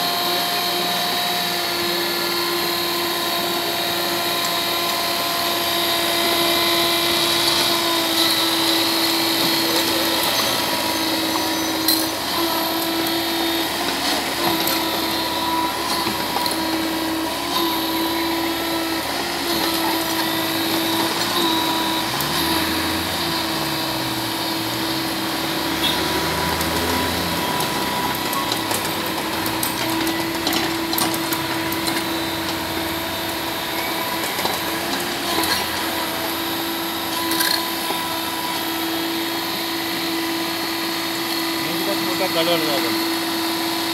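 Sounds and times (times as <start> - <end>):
excavator diesel engine running: 0.0 - 43.9
hydraulic whine: 0.0 - 43.9.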